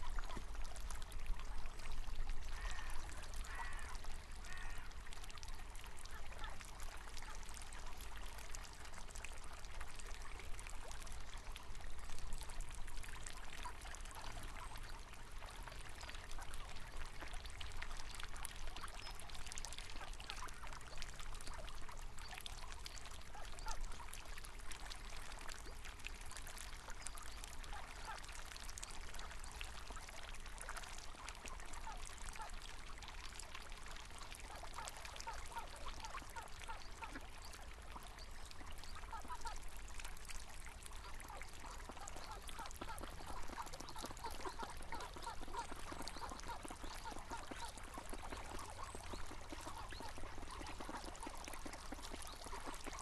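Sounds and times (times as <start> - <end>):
river water over stones: 0.0 - 53.0.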